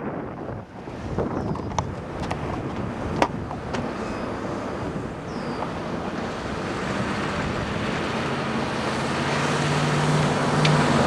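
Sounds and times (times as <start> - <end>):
vehicle engine hum: 0.0 - 11.0
wind rushing over microphone: 0.0 - 11.0.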